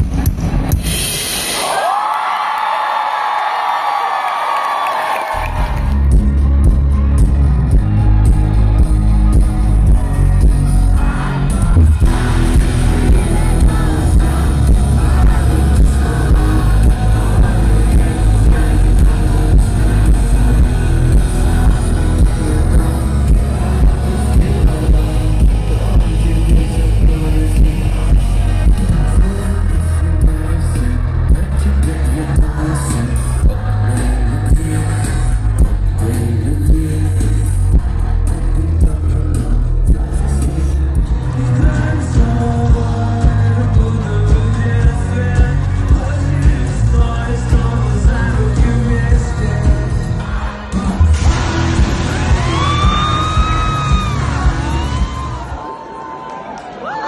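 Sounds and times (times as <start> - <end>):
live rock band with singer: 5.5 - 55.6.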